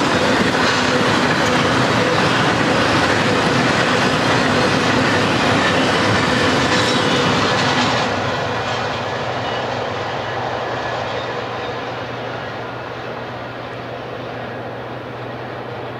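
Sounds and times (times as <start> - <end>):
freight train wheels rolling: 0.0 - 15.9.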